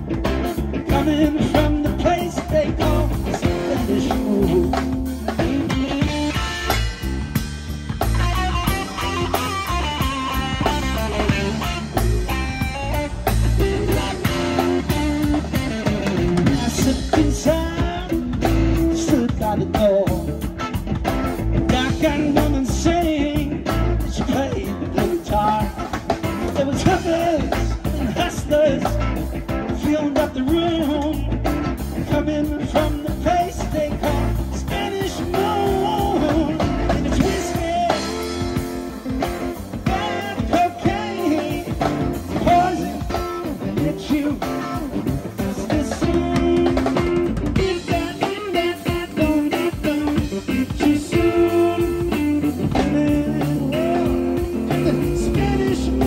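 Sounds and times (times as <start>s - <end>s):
drum kit: 0.0s - 56.0s
electric bass guitar: 0.0s - 56.0s
electric guitar: 0.0s - 56.0s.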